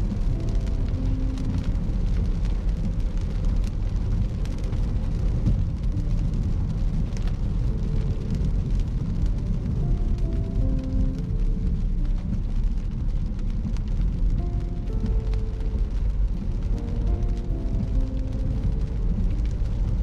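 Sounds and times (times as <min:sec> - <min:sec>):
faint music: 0:00.0 - 0:20.0
road and engine rumble in car: 0:00.0 - 0:20.0.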